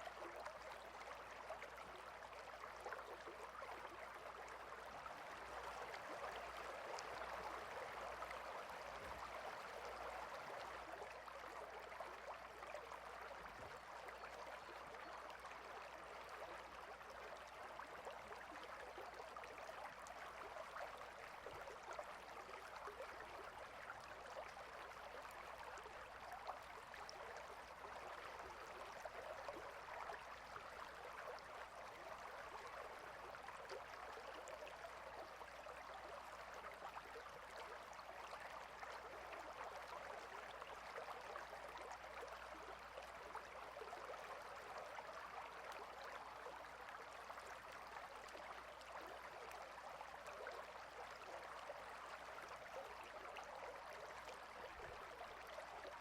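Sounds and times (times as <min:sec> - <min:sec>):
water stream flowing: 0:00.0 - 0:56.0.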